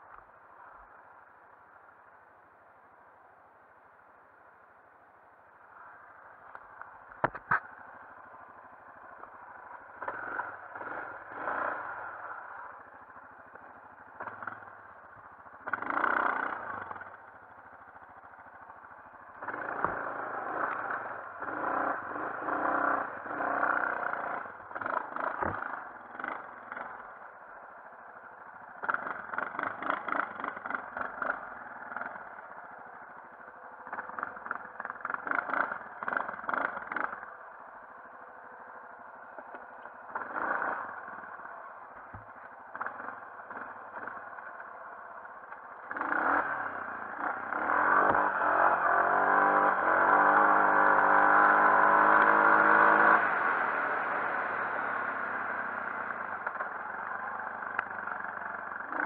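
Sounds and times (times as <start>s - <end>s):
atv engine revving: 7.2s - 59.0s.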